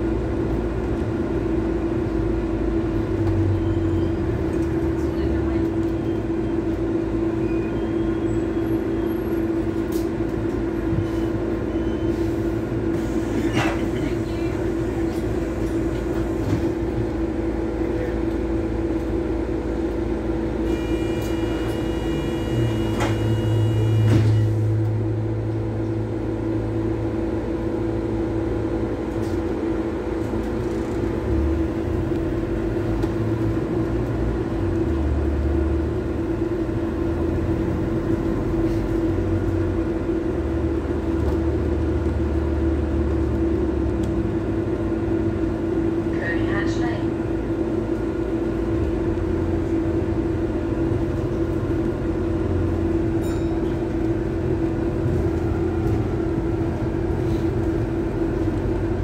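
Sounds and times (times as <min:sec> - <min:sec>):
bus drivetrain hum: 0:00.0 - 0:59.0
road rumble: 0:00.0 - 0:59.0.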